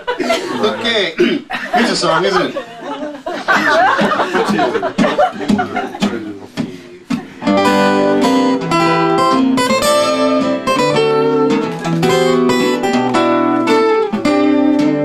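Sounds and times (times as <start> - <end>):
acoustic guitars playing chords: 0.0 - 15.0.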